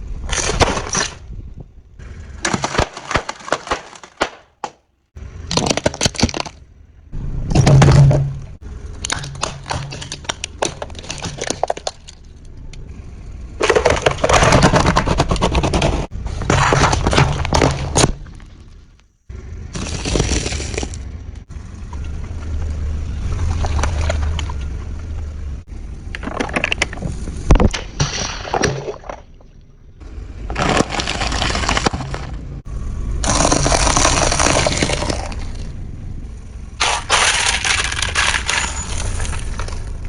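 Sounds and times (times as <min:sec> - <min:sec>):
low engine rumble: 0:00.0 - 0:02.8, 0:04.5 - 0:40.0
objects cracking under vehicle: 0:00.1 - 0:06.8, 0:07.4 - 0:19.1, 0:19.7 - 0:35.8, 0:36.7 - 0:40.0.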